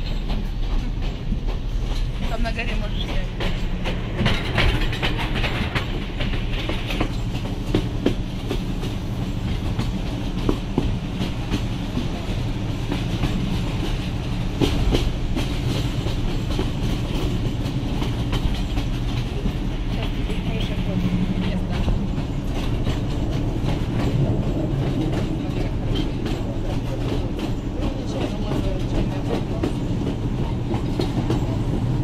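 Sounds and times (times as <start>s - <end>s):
train rumble: 0.0s - 32.0s
wheels clacking over rails: 0.0s - 32.0s.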